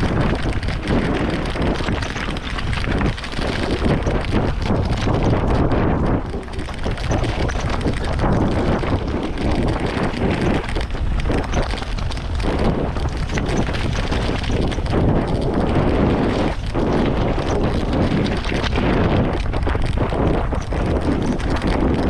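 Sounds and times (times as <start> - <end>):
bike tyres crunching on gravel: 0.0 - 22.0
wind noise on microphone: 0.0 - 22.0.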